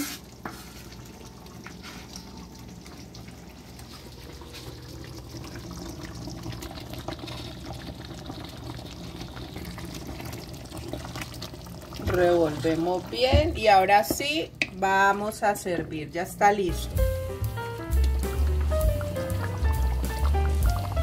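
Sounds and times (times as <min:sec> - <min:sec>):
broth bubbling in pot: 0:00.0 - 0:17.2, 0:17.9 - 0:21.0.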